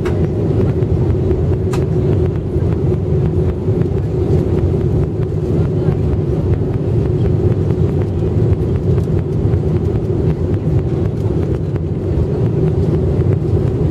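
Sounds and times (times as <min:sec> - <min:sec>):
aircraft cabin drone: 0:00.0 - 0:13.9.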